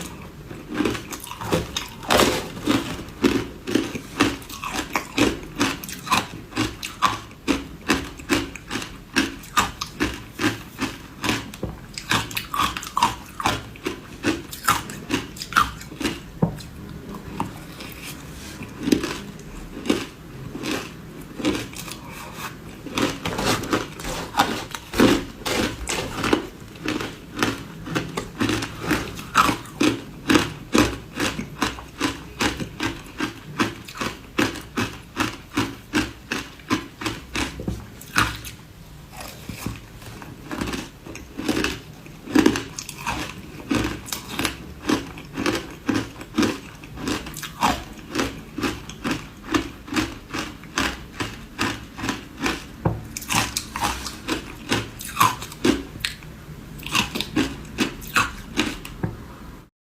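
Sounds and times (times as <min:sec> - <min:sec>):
ice crunching while chewed: 0:00.0 - 0:56.2, 0:56.8 - 0:59.0.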